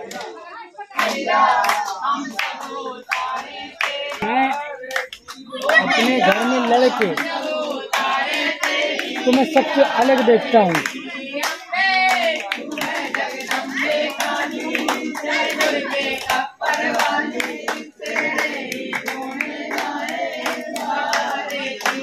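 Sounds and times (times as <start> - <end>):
hand claps: 0.0 - 0.4, 1.0 - 22.0
group singing a chant: 0.0 - 22.0.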